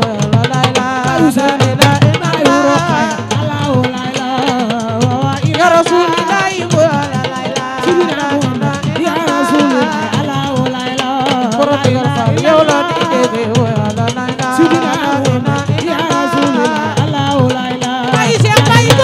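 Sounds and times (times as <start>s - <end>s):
hand drums beating: 0.0s - 19.0s
woman singing a devotional chant: 0.0s - 19.0s.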